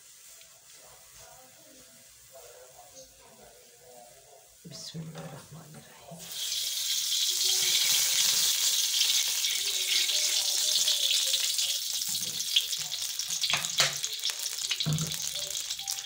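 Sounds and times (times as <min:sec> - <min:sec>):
oil sizzling in a pan: 0:00.0 - 0:04.6, 0:06.2 - 0:16.0.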